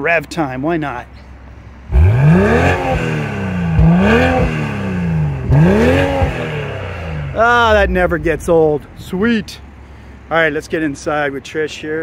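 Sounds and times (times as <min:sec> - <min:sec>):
car engine idling and revving: 0:01.1 - 0:12.0.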